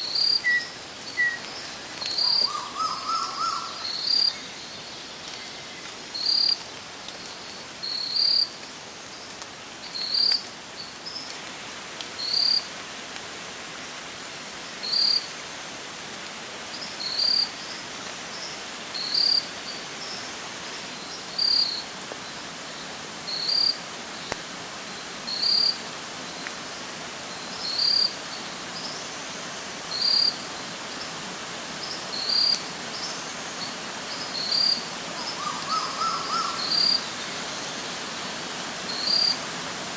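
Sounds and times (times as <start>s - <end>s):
creek water flowing: 0.0s - 7.8s, 8.4s - 39.9s.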